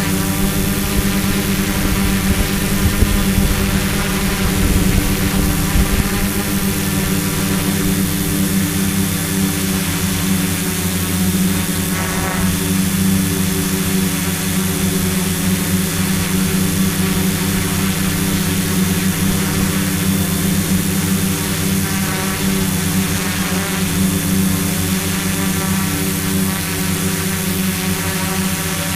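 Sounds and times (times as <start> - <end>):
drone motors humming: 0.0 - 28.9.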